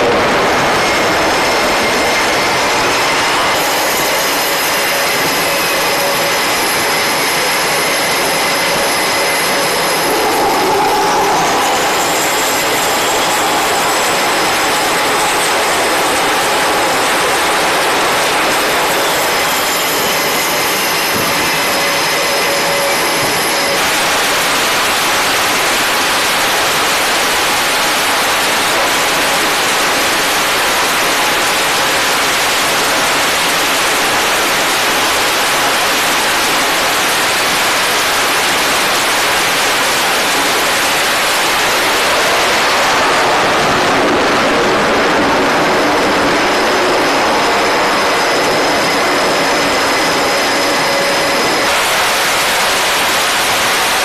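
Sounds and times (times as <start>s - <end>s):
jet engine whine: 0.0s - 54.0s
jet engines roaring: 0.0s - 54.0s.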